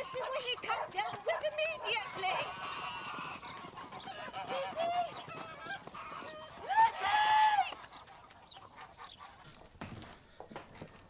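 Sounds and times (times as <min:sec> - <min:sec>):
geese honking: 0:00.0 - 0:09.6.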